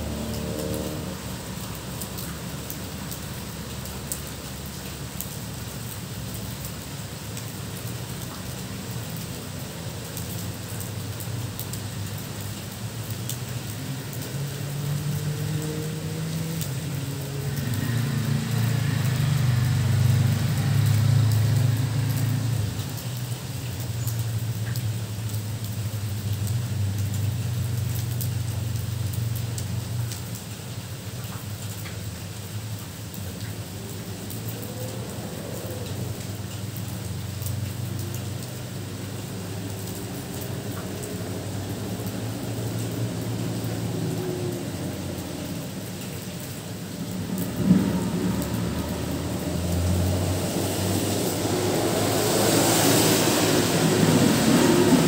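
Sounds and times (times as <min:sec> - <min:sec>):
steady rain falling: 0:00.0 - 0:55.0
tyre hiss on wet road: 0:00.0 - 0:55.0
vehicle engine rumble: 0:00.0 - 0:55.0.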